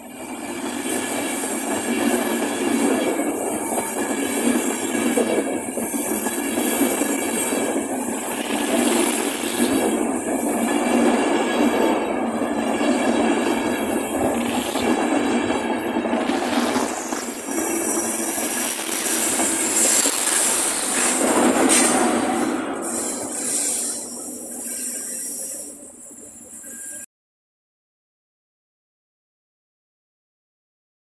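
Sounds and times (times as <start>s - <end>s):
train wheels rushing on rails: 0.0s - 27.0s.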